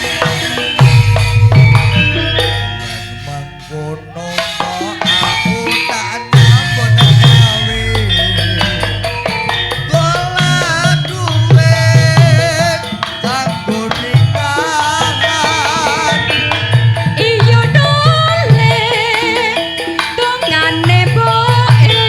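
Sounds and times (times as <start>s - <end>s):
hand drums steady beat: 0.0s - 22.0s
high melody with wide vibrato: 0.0s - 22.0s.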